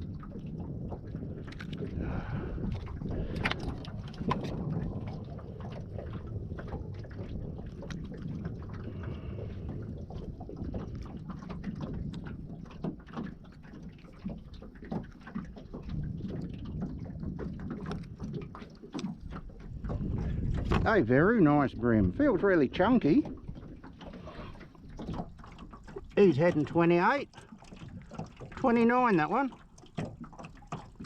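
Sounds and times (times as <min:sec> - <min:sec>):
wind and water rumble: 0:00.0 - 0:31.0.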